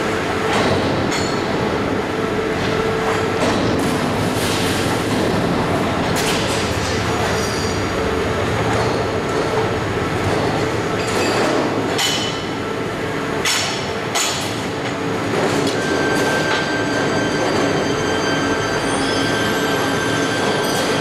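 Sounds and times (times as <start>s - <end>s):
machine hum and rumble: 0.0s - 21.0s.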